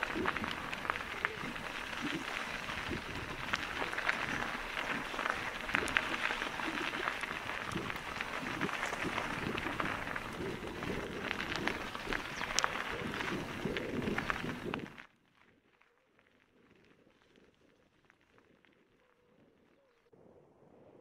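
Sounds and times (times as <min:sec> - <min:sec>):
bike tyres rolling on wet gravel: 0:00.0 - 0:18.8.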